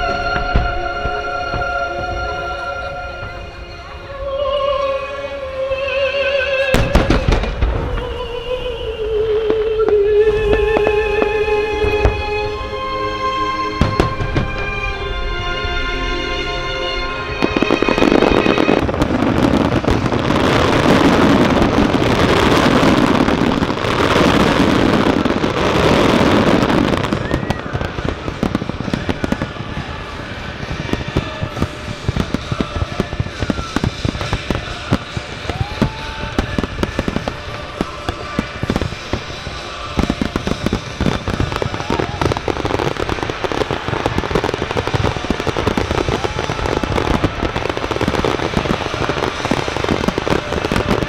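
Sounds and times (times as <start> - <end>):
fireworks exploding and crackling: 0.0 - 51.0.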